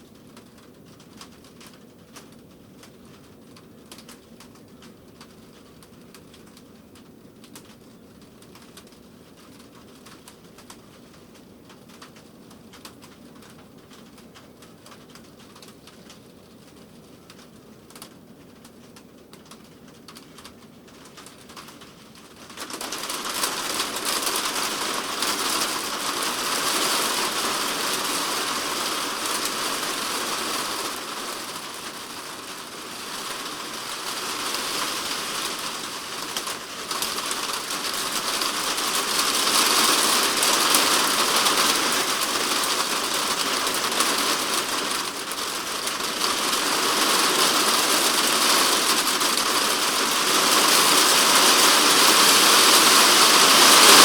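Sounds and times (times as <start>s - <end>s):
heavy rain on plastic roof: 0.0s - 54.0s.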